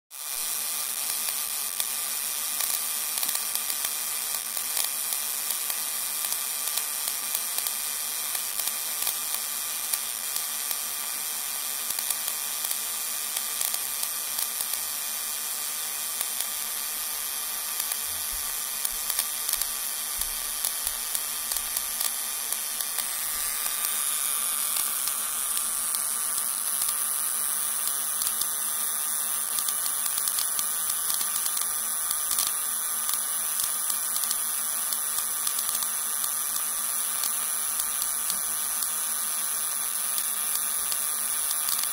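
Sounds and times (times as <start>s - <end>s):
electrical hiss with high tones: 0.2s - 41.9s
sharp electrical crackles: 2.6s - 41.9s.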